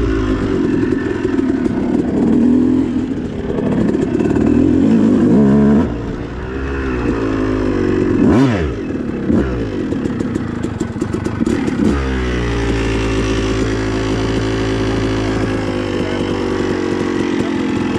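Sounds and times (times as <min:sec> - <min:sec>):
motocross bike engine revving: 0:00.0 - 0:17.9.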